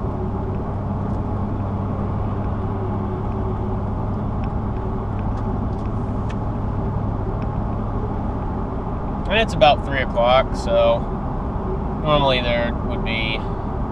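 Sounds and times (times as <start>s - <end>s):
car engine and road noise: 0.0s - 13.9s
constant low hum: 0.0s - 13.9s.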